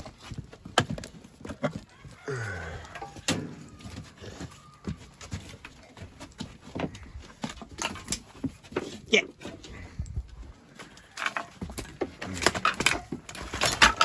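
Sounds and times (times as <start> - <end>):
hooves and feet on hard floor: 0.0 - 14.0.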